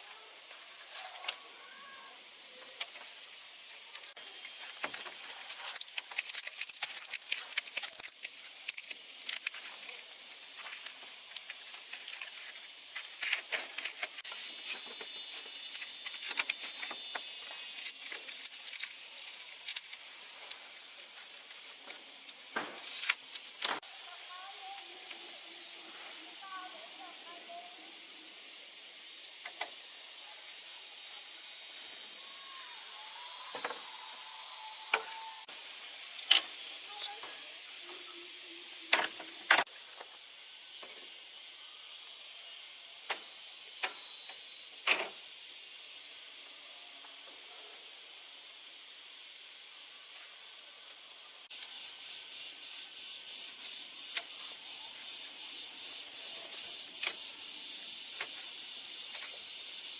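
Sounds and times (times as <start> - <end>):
pulsing hiss: 0.0 - 47.0, 47.8 - 59.9
high-pitched hiss: 0.0 - 59.9.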